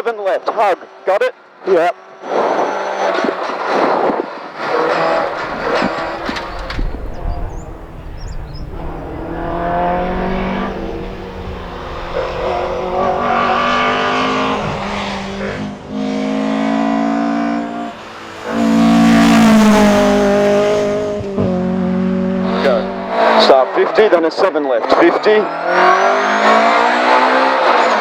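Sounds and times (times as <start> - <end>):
car engine revving hard: 4.6 - 24.2, 24.8 - 28.0.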